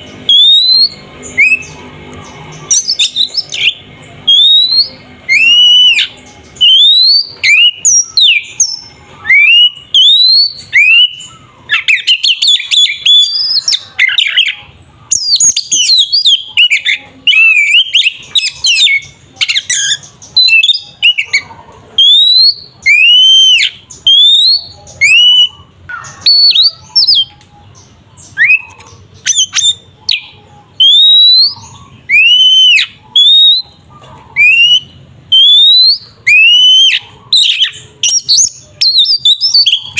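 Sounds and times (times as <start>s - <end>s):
bird rapid jumbled chattering: 0.0s - 39.9s
bird whistled song: 0.0s - 39.9s.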